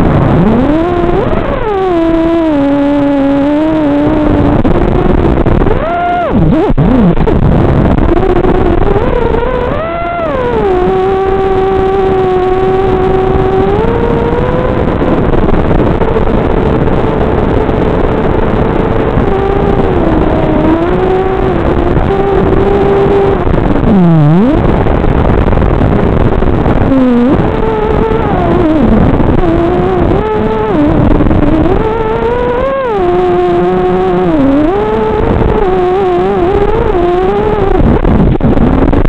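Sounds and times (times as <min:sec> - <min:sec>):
drone motors whining: 0:00.0 - 0:38.0
steady rushing noise: 0:00.0 - 0:39.0.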